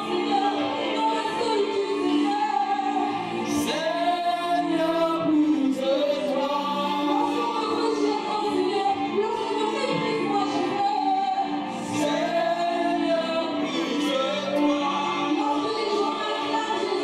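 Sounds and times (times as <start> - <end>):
woman singing gospel song: 0.0 - 17.0.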